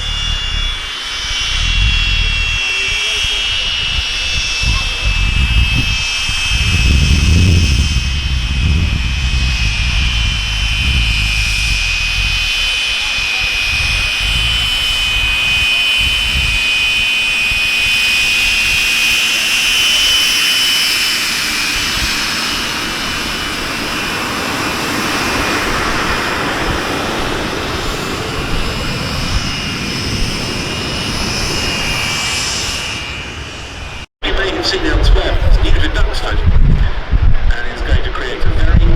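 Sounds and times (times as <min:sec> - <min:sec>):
low rumble: 0:00.0 - 0:38.0
jet engine high-pitched whine: 0:00.0 - 0:38.9.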